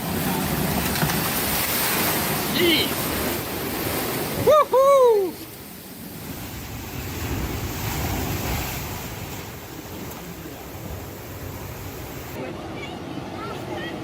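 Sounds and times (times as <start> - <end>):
surf: 0.0 - 14.0.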